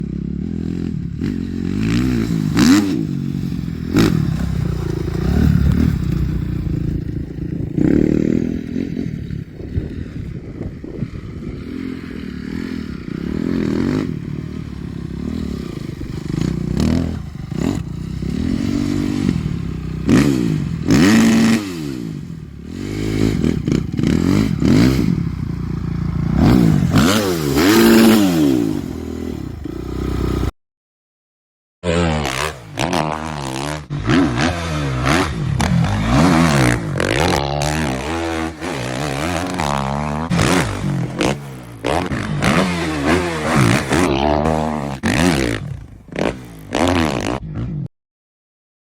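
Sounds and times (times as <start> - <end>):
motocross bike engine revving: 0.0 - 30.5, 31.8 - 47.9.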